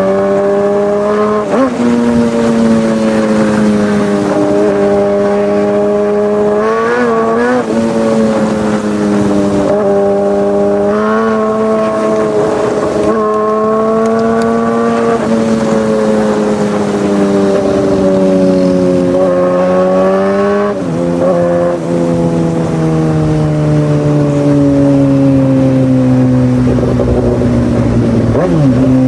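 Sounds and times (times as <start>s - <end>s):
superbike engine at high revs: 0.0s - 29.0s.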